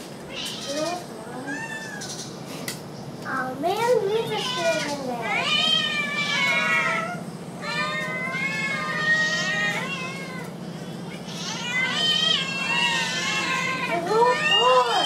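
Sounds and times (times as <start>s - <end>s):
cats meowing: 0.1s - 2.4s, 3.8s - 15.0s.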